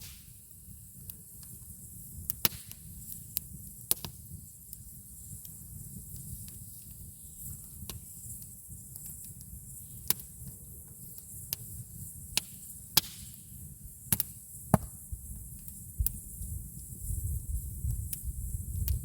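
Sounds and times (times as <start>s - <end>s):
campfire crackling and popping: 0.0s - 16.2s.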